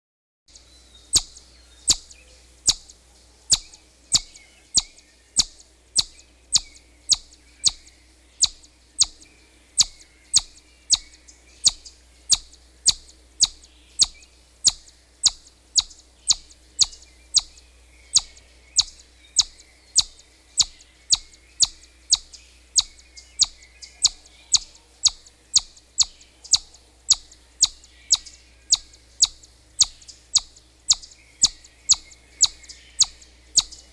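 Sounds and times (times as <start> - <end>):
chipmunk chipping: 1.0 - 33.9.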